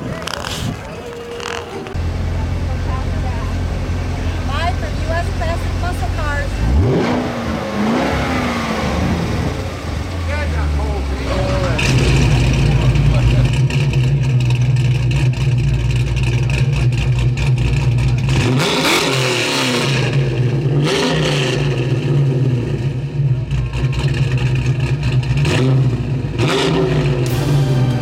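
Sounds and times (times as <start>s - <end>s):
car engine rumbling: 0.0s - 28.0s.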